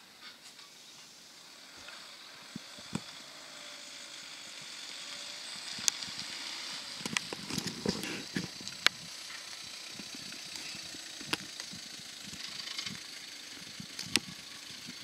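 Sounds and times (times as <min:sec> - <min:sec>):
car tyres hissing: 0:00.0 - 0:15.0
grit crackling under tyres: 0:00.0 - 0:15.0.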